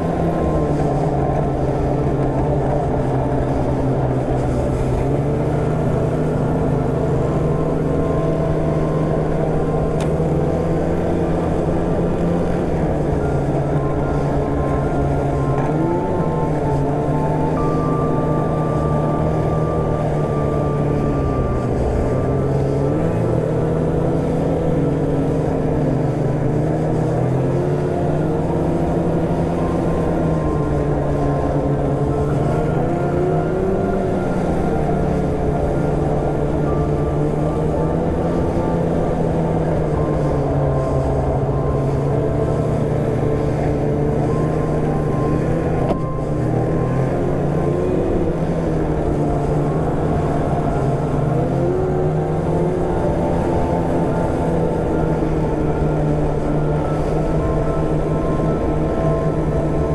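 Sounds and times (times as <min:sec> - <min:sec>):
snowmobile engine running: 0:00.0 - 0:59.9
track and wind noise: 0:00.0 - 0:59.9.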